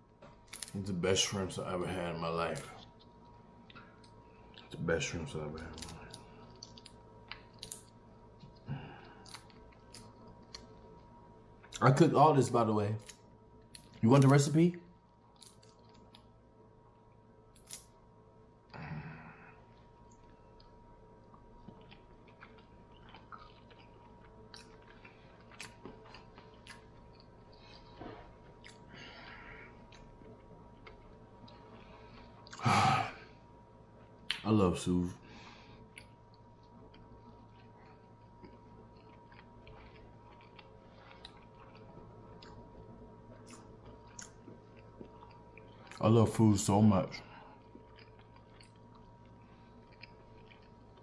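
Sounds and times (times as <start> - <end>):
soft chewing: 0.1 - 51.0.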